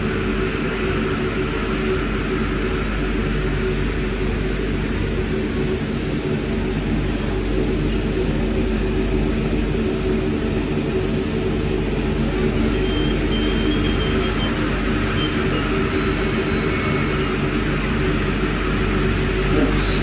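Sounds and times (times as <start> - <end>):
low tonal hum: 0.0 - 20.0
train rumble in tunnel: 0.0 - 20.0.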